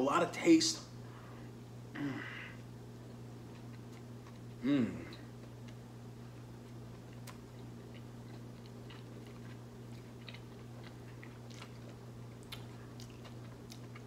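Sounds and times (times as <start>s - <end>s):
steady low hum: 0.0s - 14.0s
man chewing food: 2.2s - 14.0s.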